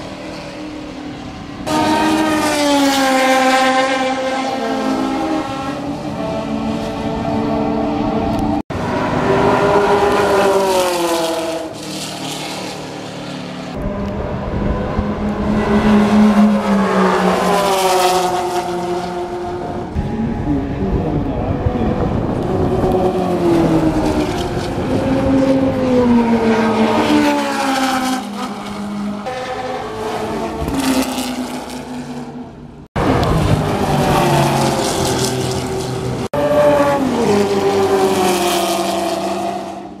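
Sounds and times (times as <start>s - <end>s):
race car engines passing: 0.0s - 40.0s.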